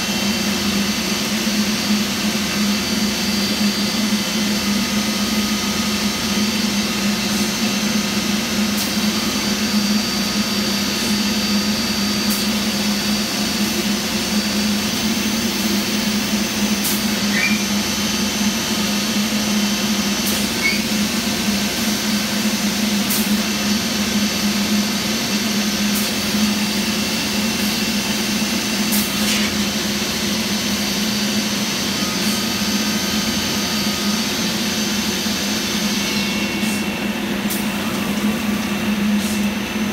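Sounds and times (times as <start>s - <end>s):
machine mechanical drone: 0.0s - 39.9s.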